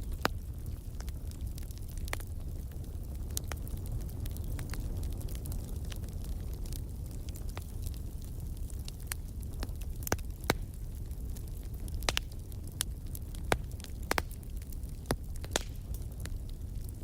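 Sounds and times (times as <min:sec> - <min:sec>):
low rumble of flame: 0:00.0 - 0:17.0
wood fire pops and snaps: 0:00.0 - 0:17.0.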